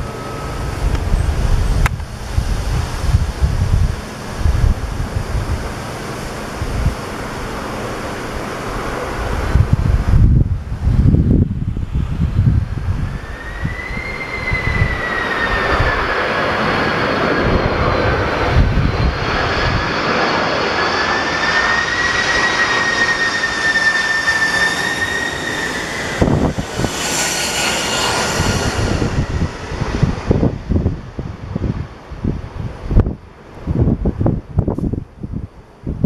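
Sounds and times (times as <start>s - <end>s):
jet engines whining: 0.0s - 33.5s
wind buffeting microphone: 0.0s - 36.0s.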